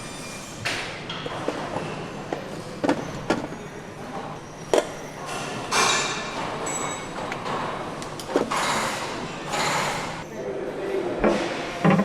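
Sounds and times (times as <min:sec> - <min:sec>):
steady factory hum: 0:00.0 - 0:12.0.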